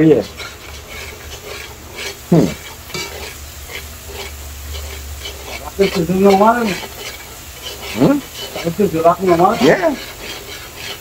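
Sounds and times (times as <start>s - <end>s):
oil sizzling: 0.0s - 11.0s
spoon scraping in pot: 0.0s - 11.0s.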